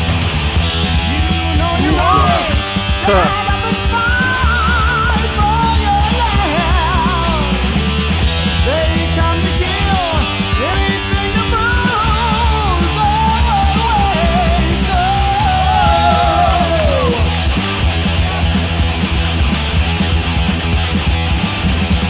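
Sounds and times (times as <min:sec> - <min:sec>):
rock music with sliding melody: 0:00.0 - 0:22.0
steady bass: 0:00.0 - 0:22.0.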